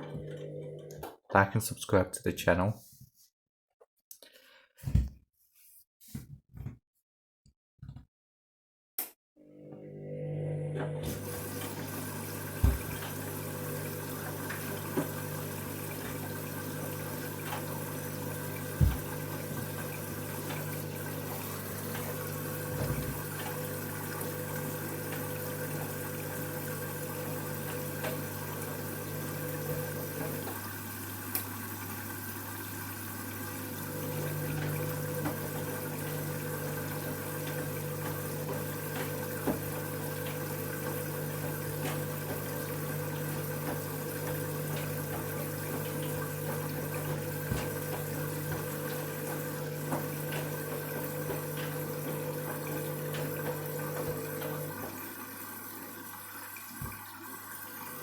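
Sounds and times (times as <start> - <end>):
water running into washing machine: 0.0 - 1.1, 9.4 - 58.0.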